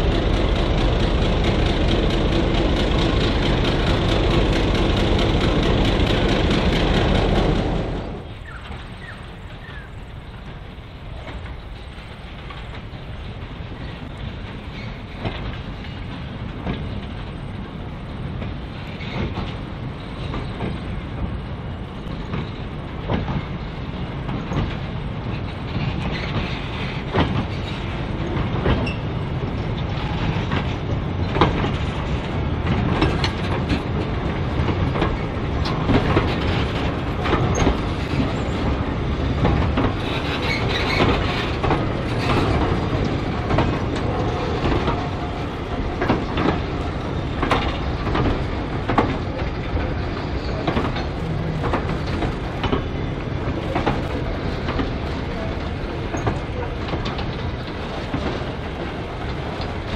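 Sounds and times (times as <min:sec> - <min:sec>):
steady low train rumble: 0:00.0 - 0:59.9
train wheels clicking over rail joints: 0:00.0 - 0:59.9.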